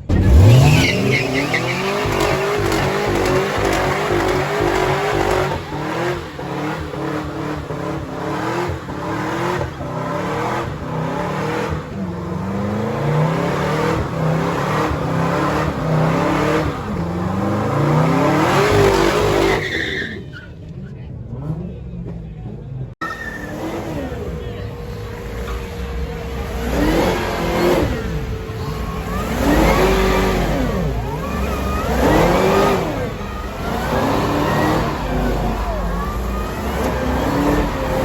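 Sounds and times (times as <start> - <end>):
car engine revving: 0.0 - 20.3, 23.2 - 38.0
tyres squealing: 0.0 - 20.6, 23.0 - 38.0.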